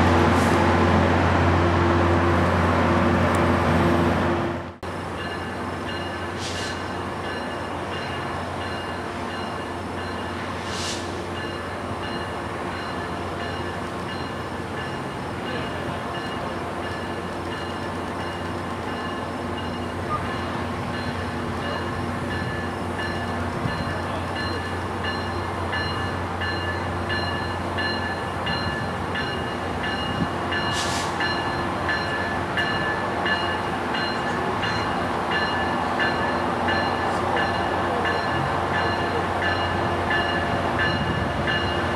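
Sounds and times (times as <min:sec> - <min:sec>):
diesel locomotive engine hum: 0:00.0 - 0:41.9.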